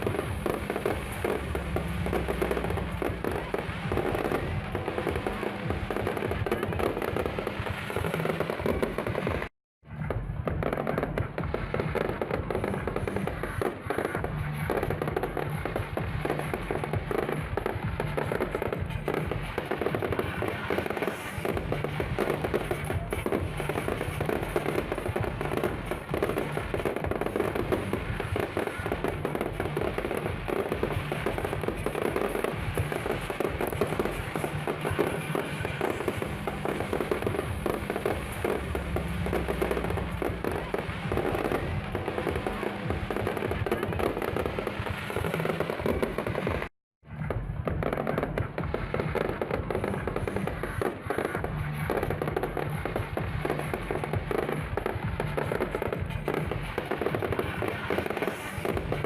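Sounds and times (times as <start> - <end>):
fireworks bangs and crackles: 0.0 - 59.0
music playing: 0.0 - 59.0.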